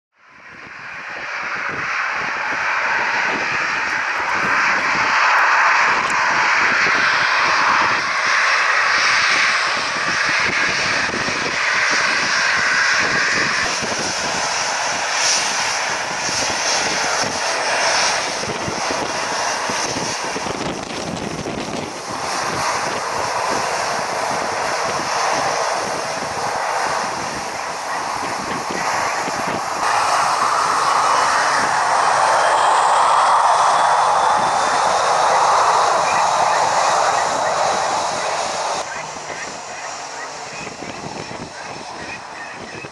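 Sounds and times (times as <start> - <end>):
jet engines whining: 0.2 - 42.9
wind buffeting microphone: 0.3 - 42.9.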